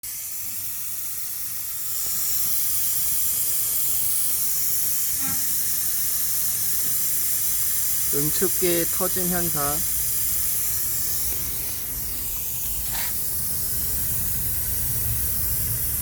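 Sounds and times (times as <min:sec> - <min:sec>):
pressurised gas hissing: 0:00.0 - 0:16.0.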